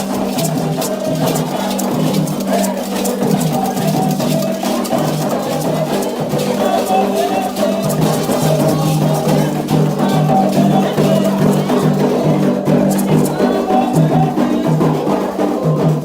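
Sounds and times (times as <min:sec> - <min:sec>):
clacking percussion: 0:00.0 - 0:16.0
fast hand drumming: 0:00.0 - 0:16.0
group singing a chant: 0:00.0 - 0:16.0.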